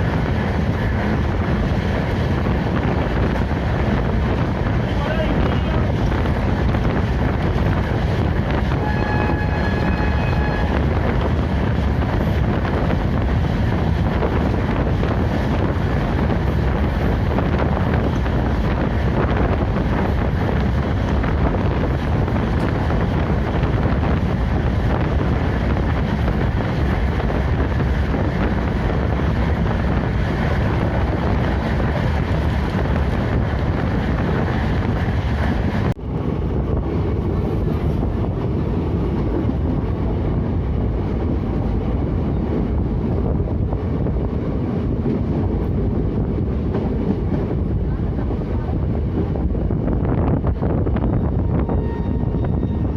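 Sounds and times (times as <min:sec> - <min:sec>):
deep constant rumble: 0:00.0 - 0:52.9
wind buffeting microphone: 0:00.0 - 0:52.9.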